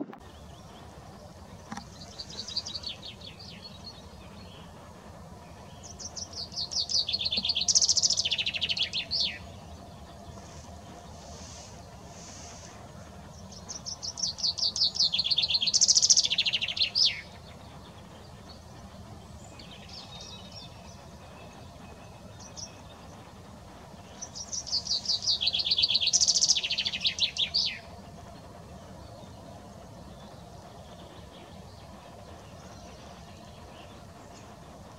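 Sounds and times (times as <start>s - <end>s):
chaffinch singing: 0.0s - 34.9s.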